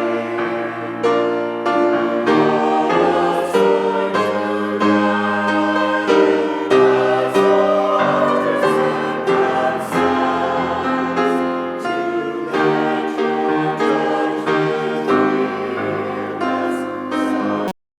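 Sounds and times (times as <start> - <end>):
choir singing: 0.0 - 17.8
piano accompaniment: 0.0 - 17.8.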